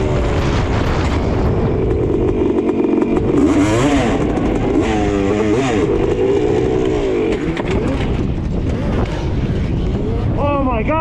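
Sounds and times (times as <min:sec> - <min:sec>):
atv engine running: 0:00.0 - 0:10.8.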